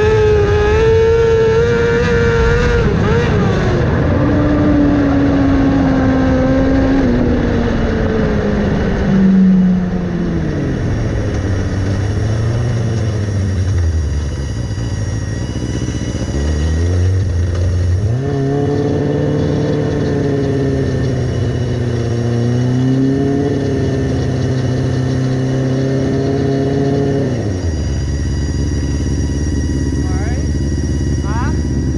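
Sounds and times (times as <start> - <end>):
race car engine: 0.0 - 31.9.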